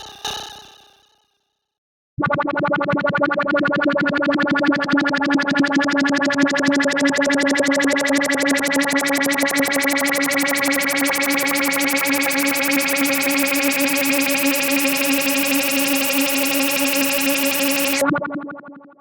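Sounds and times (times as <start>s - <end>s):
pulsing synthesizer note: 2.2s - 18.8s.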